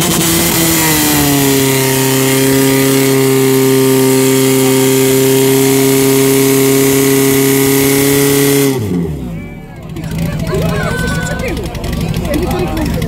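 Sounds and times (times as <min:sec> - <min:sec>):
fire pump engine running: 0:00.0 - 0:13.0.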